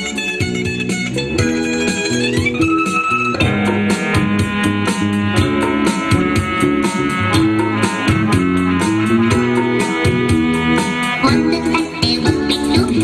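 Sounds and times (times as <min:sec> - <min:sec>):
music with a steady beat: 0:00.0 - 0:13.0.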